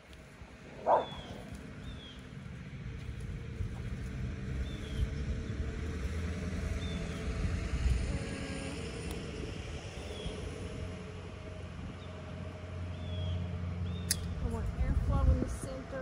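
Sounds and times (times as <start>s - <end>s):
vehicle engine rumble passing: 0.0s - 16.0s.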